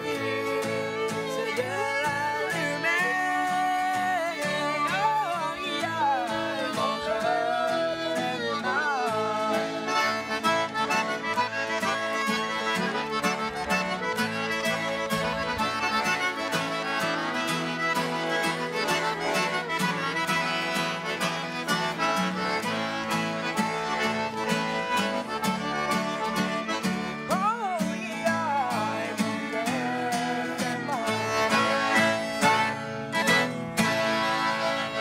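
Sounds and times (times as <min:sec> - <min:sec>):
band music with guitar and accordion: 0:00.0 - 0:35.0.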